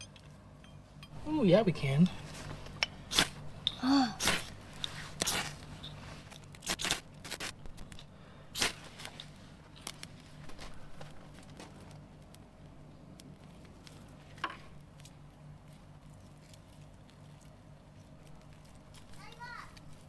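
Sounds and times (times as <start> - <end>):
dry kindling crunching and snapping: 1.1 - 20.0.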